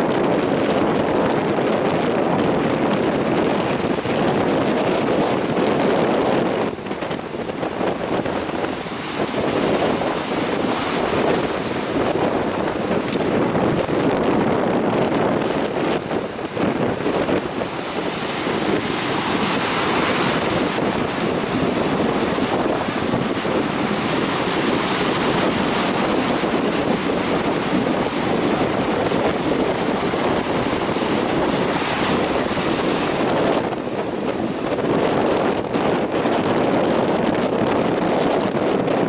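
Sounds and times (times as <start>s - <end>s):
surf of high waves: 0.0s - 39.0s
wind buffeting microphone: 0.0s - 39.0s.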